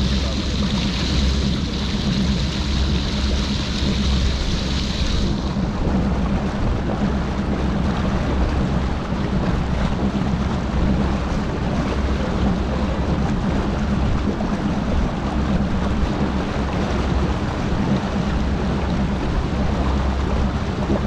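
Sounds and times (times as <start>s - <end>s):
outboard motor running: 0.0s - 21.0s
water washing along hull: 0.0s - 21.0s.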